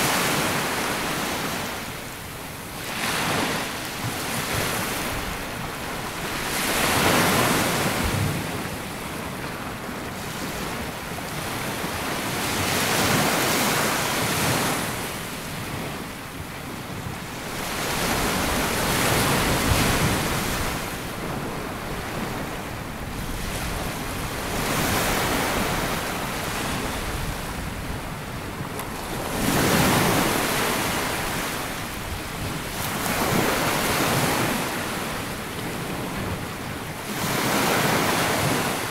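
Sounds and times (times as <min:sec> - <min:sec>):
sea waves breaking on beach: 0:00.0 - 0:38.9
wind buffeting microphone: 0:00.0 - 0:38.9.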